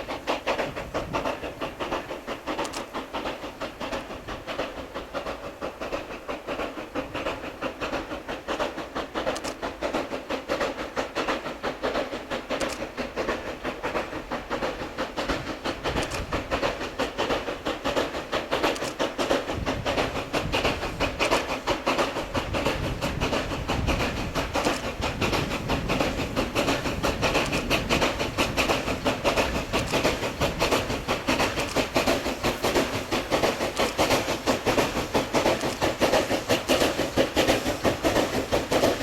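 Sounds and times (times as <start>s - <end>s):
steam locomotive running: 0.0s - 39.0s.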